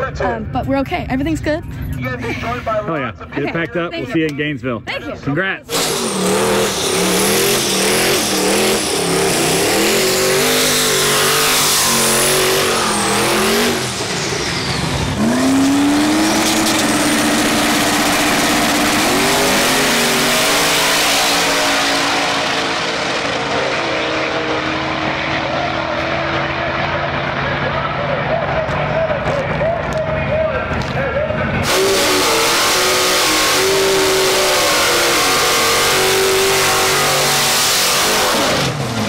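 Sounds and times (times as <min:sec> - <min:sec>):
race car engines revving: 0:05.6 - 0:39.0
race cars accelerating: 0:05.7 - 0:39.0.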